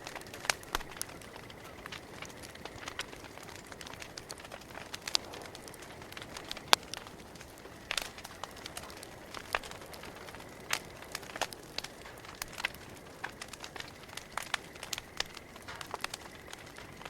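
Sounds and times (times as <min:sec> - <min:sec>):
campfire crackling: 0:00.0 - 0:17.0
faint steady hiss: 0:00.0 - 0:17.0.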